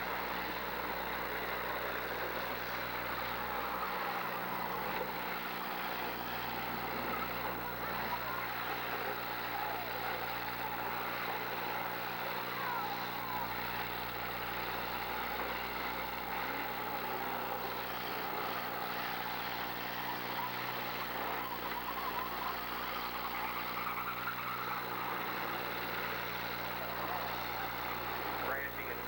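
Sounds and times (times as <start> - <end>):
car engines revving: 0.0 - 29.0
low hum: 0.0 - 29.0.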